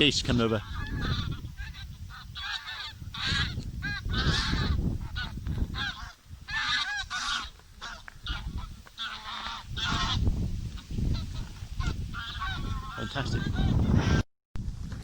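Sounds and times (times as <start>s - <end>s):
wind buffeting microphone: 0.0s - 15.0s
geese honking: 0.3s - 14.2s.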